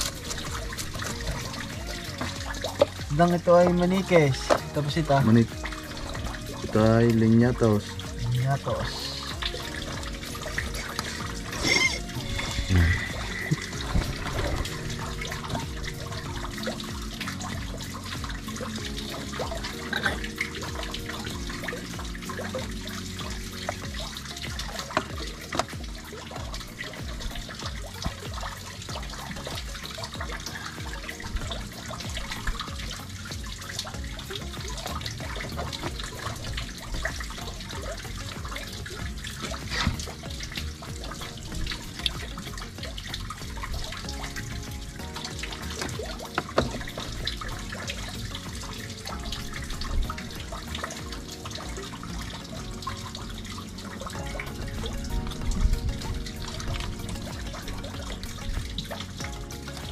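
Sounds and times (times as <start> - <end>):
soft background music: 0.0 - 59.9
water dripping and trickling: 0.0 - 59.9.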